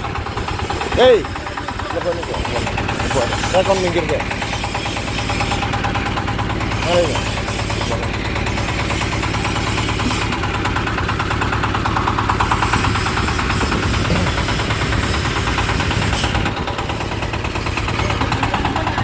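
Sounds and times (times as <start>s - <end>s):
diesel engine knocking steadily: 0.0s - 19.0s.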